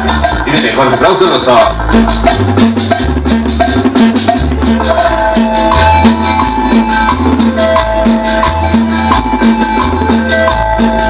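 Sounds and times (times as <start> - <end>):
bass line: 0.0 - 11.0
cumbia over a sound system: 0.0 - 11.0
higher melody line: 0.0 - 11.0
percussion: 0.0 - 11.0.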